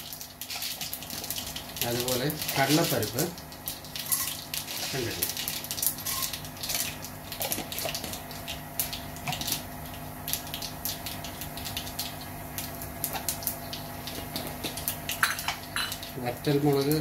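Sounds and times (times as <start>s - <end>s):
seeds sizzling and crackling in oil: 0.0s - 17.0s.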